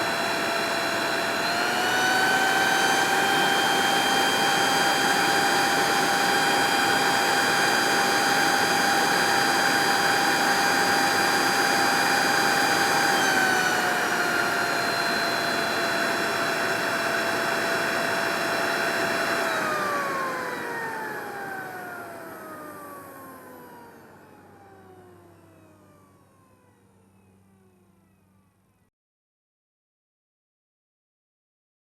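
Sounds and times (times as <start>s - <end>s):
leaf blower whine: 0.0s - 28.4s.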